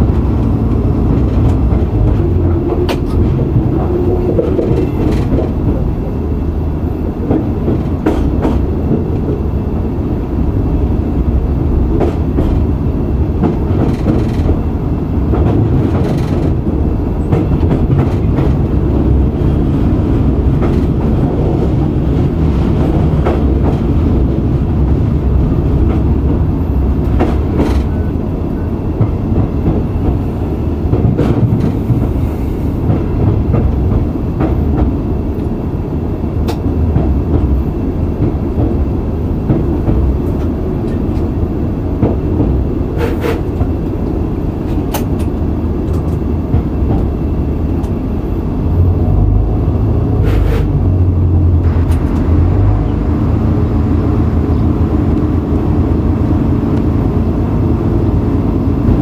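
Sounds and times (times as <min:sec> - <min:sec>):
diesel engine drone: 0:00.0 - 0:13.8, 0:14.4 - 0:59.0
wheels rumbling on rail: 0:00.0 - 0:59.0.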